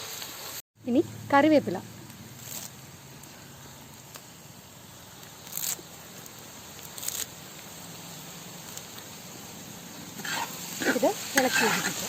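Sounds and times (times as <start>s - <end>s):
leaves crackling in hot oil: 0.0s - 12.0s
onions sizzling in oil: 0.0s - 12.0s.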